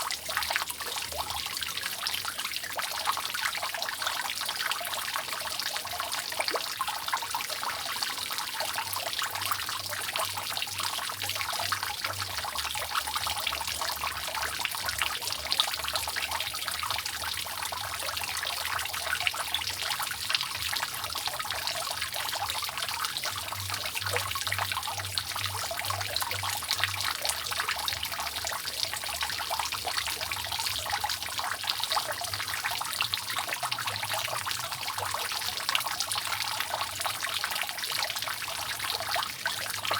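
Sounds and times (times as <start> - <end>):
rainwater dripping from roof: 0.0 - 39.9.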